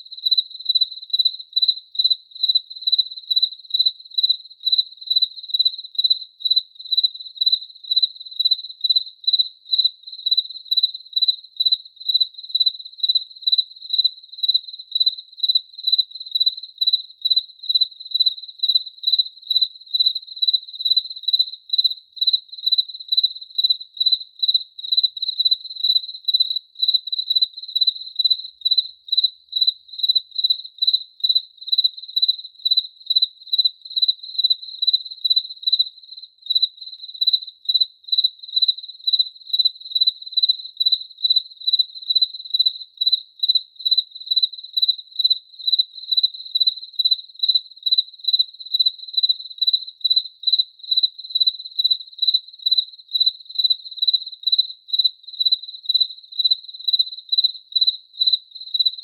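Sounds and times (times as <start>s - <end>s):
cricket chirping: 0.0s - 59.0s.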